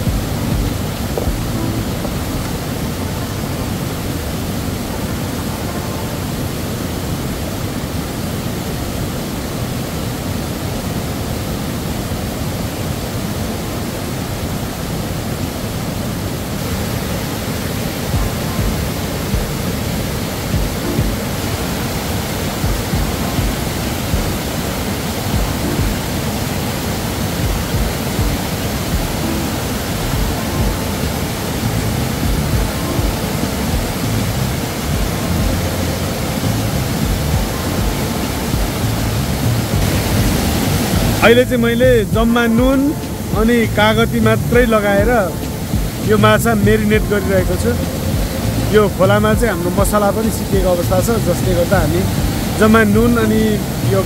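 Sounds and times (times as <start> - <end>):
river rushing over boulders: 0.0 - 54.0.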